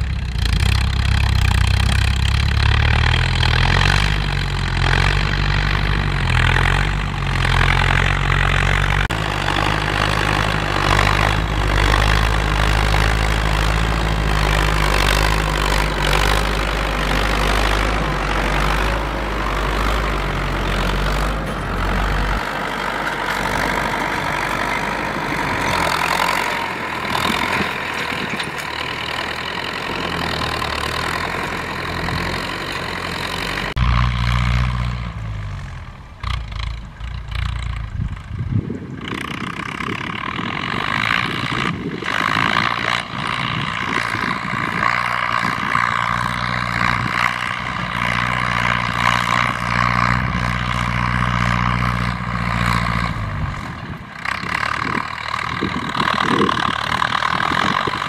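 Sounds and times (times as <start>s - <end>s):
tractor diesel engines under load: 0.0s - 58.0s.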